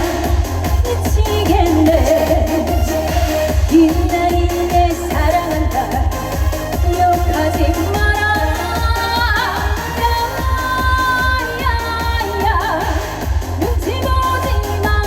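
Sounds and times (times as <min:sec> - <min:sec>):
backing track with bass beat: 0:00.0 - 0:15.0
woman singing: 0:00.0 - 0:15.0.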